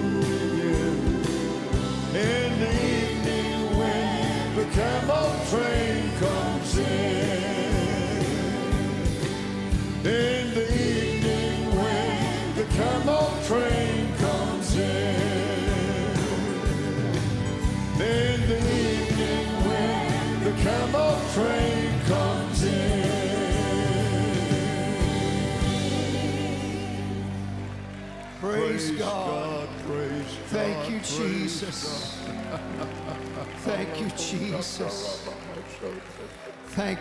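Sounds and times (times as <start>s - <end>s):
gospel band playing: 0.0s - 37.0s.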